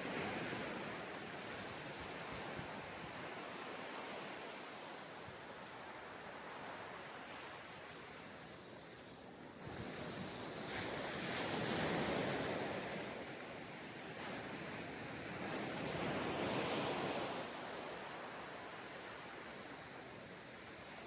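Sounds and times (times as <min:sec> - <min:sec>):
ocean waves breaking on beach: 0:00.0 - 0:21.0.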